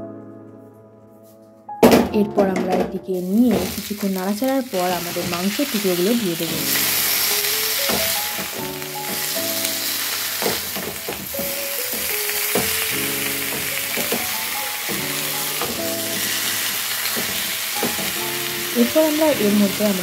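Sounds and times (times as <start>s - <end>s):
background music with held notes: 0.0s - 20.0s
chicken sizzling in hot oil: 3.2s - 20.0s.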